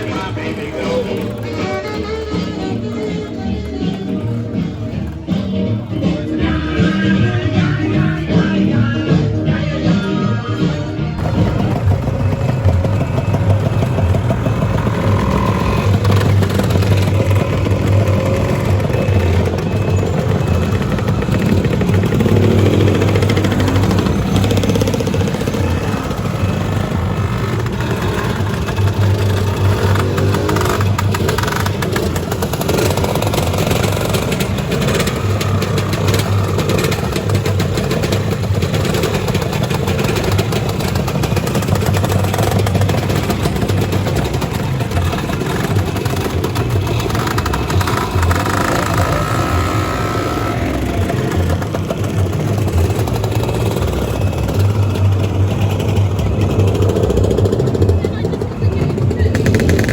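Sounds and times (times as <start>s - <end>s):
scooter engines running: 0.0s - 59.9s.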